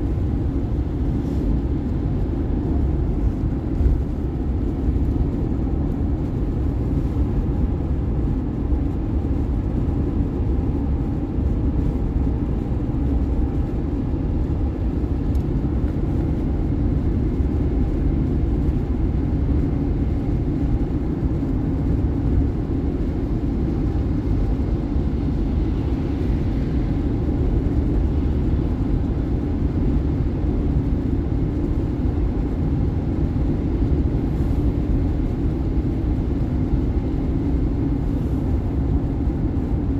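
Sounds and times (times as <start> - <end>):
car driving at highway speed: 0.0 - 39.9.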